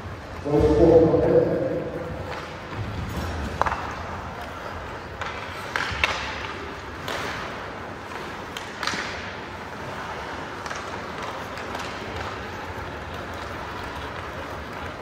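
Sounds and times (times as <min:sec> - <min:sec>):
hockey sticks and puck clacking: 0:02.1 - 0:15.0
skates scraping ice: 0:02.1 - 0:15.0.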